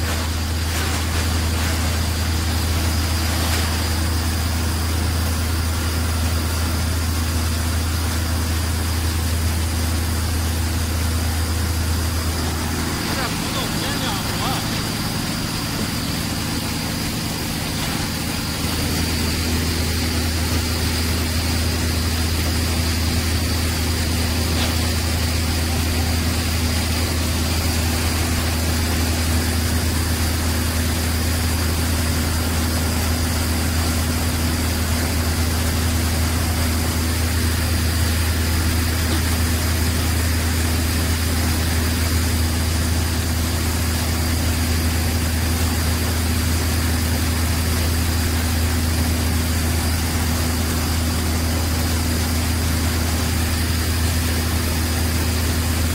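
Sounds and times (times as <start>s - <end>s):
heavy machinery engine running: 0.0s - 55.9s.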